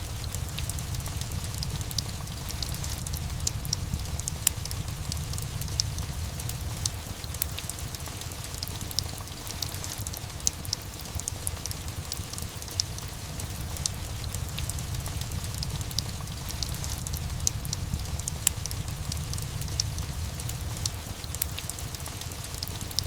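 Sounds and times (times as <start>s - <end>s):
fireplace crackling: 0.0s - 23.0s
steady rain: 0.0s - 23.0s.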